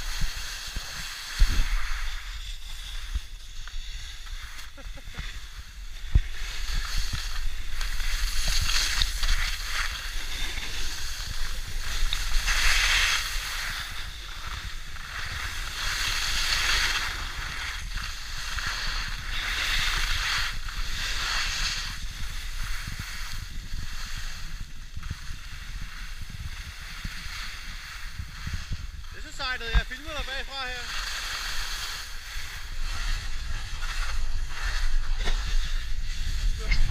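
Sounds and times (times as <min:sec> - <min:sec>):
skis scraping on packed snow: 0:00.0 - 0:36.9
wind rumble on microphone: 0:00.0 - 0:36.9.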